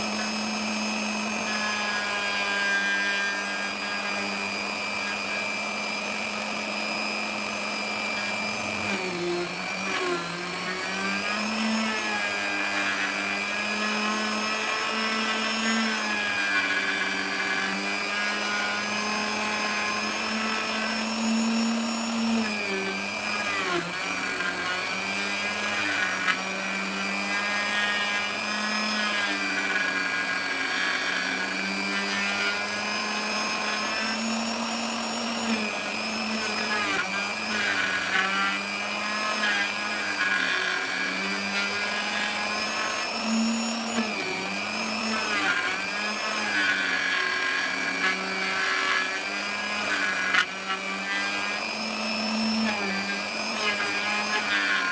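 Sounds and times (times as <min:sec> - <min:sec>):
power tool cutting wood: 0:00.0 - 0:54.9.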